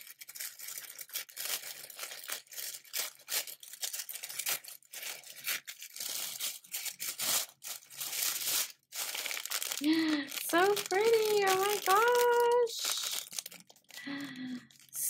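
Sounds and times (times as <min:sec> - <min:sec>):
tissue paper crinkling and tearing: 0:00.0 - 0:15.0.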